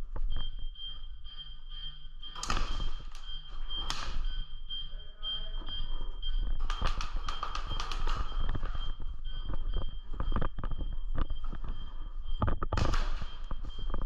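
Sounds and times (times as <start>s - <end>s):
high electronic beeping: 0.3s - 14.0s.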